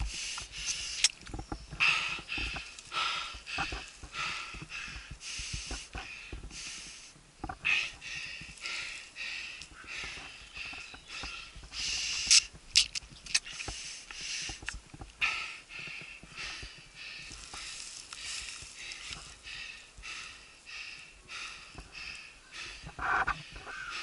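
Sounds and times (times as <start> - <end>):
person panting hard: 0.0 - 1.0, 1.7 - 12.4, 13.4 - 24.0.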